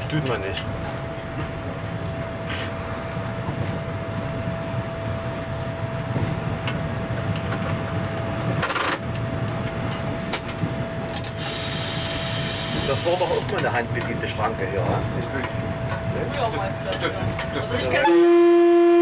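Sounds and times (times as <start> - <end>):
diesel engine drone: 0.0 - 19.0
train rolling rumble: 0.0 - 19.0.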